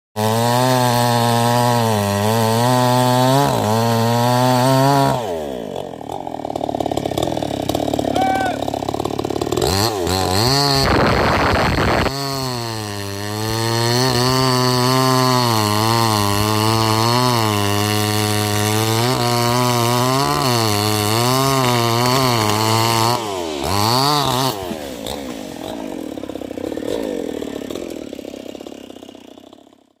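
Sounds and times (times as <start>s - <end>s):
chainsaw cutting wood: 0.2s - 30.0s.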